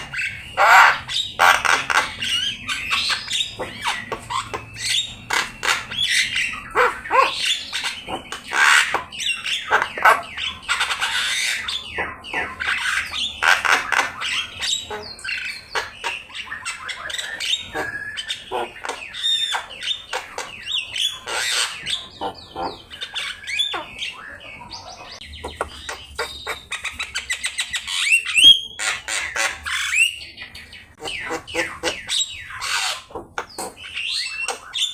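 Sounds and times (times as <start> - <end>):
myna singing harsh squawks: 0.0 - 30.2, 31.0 - 34.9.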